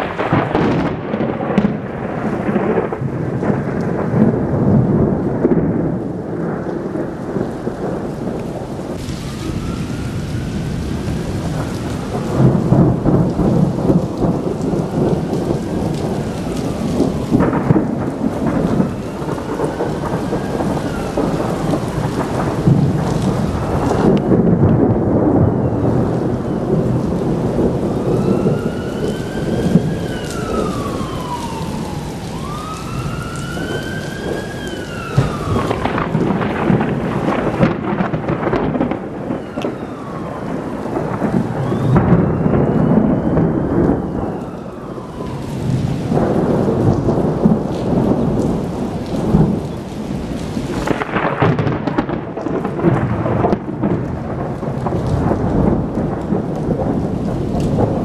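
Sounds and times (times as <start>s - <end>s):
steady rain: 0.0s - 58.0s
thunder rumbling: 0.0s - 58.0s
siren wailing: 6.2s - 53.8s.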